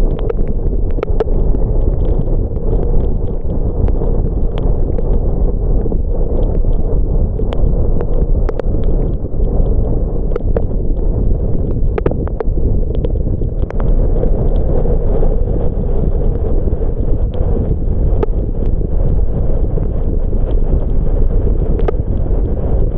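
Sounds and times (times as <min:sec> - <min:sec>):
raindrops ticking: 0:00.0 - 0:22.9.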